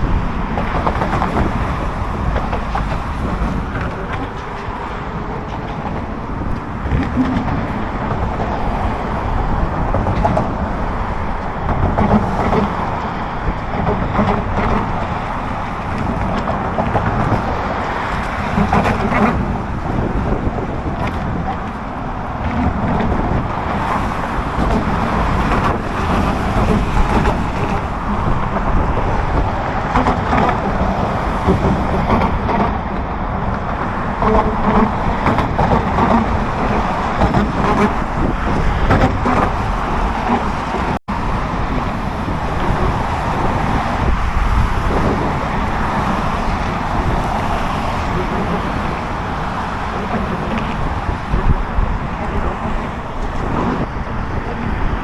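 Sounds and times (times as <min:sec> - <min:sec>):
road traffic roar: 0:00.0 - 0:55.0
wind buffeting microphone: 0:00.0 - 0:55.0.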